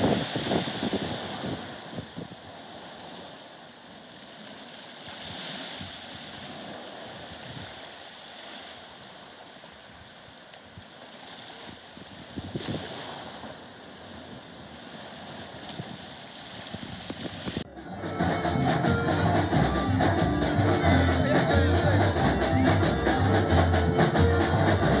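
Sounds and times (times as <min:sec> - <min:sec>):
wind on microphone: 0:00.0 - 0:03.4, 0:05.1 - 0:07.9, 0:09.8 - 0:25.0
sea surf washing: 0:00.0 - 0:25.0.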